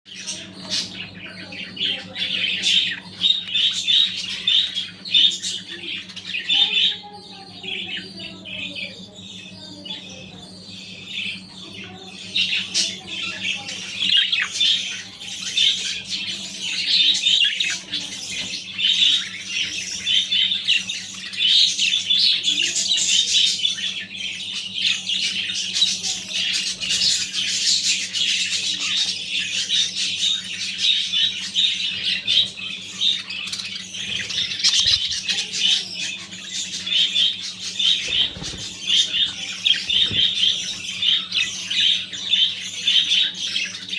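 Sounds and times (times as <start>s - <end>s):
budgerigars chattering and squawking: 0.1s - 43.9s.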